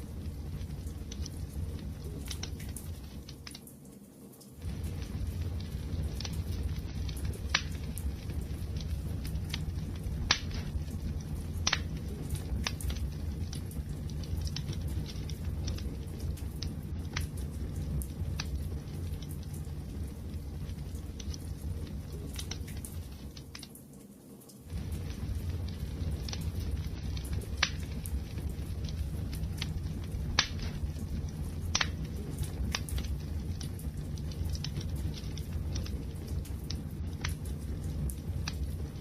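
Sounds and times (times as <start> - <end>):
low rumble of flames: 0.0 - 39.0
wood fire crackles and pops: 0.0 - 39.0.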